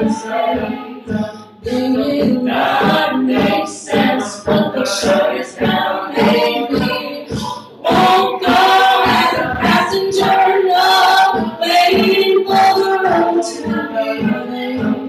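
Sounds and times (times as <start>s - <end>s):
female lead singing: 0.0s - 15.0s
group singing backing parts: 0.0s - 15.0s.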